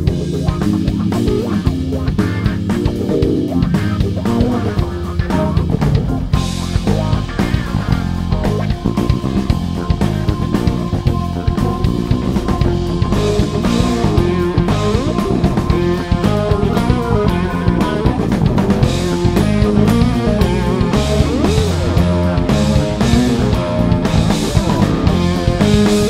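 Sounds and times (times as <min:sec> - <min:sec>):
bass guitar: 0:00.0 - 0:26.0
drum kit: 0:00.0 - 0:26.0
electric guitar: 0:00.0 - 0:26.0.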